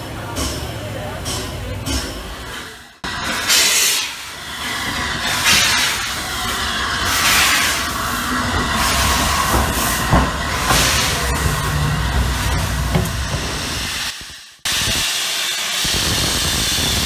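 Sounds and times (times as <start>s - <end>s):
low rumble of locomotive engine: 0.0s - 14.4s
steam hissing in gusts: 3.1s - 17.0s.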